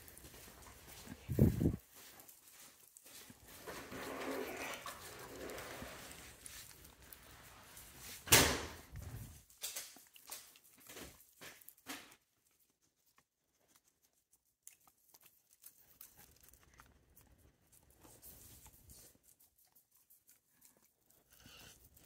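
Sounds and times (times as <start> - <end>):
dog licking and nibbling bone: 0.0 - 22.0.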